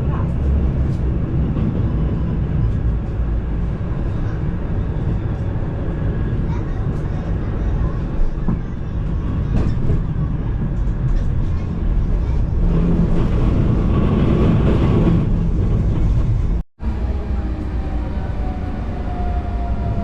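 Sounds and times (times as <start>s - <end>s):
tram running along rails: 0.0s - 20.0s.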